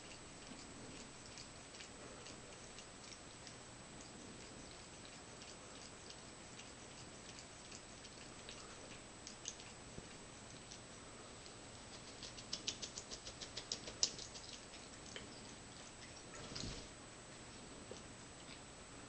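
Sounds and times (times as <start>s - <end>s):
cat lapping water: 0.0s - 16.8s.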